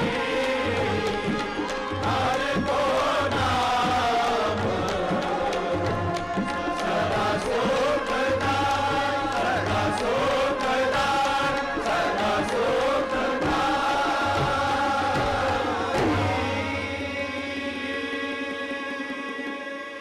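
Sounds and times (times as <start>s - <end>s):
group singing a hymn: 0.0s - 20.0s.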